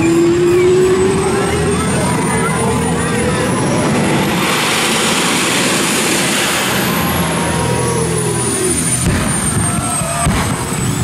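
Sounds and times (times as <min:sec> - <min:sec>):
jet turbine engine whining: 0:00.0 - 0:11.0.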